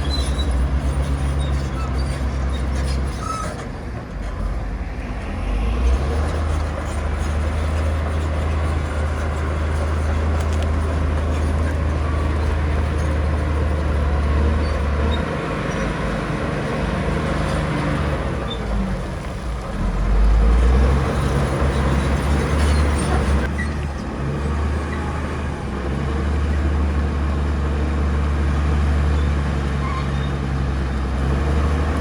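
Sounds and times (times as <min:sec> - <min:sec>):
heavy diesel machinery engine drone: 0:00.0 - 0:32.0.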